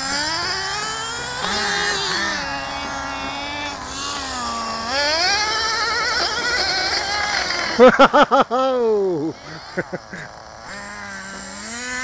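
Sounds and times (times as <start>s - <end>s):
small nitro engine revving: 0.0s - 12.0s.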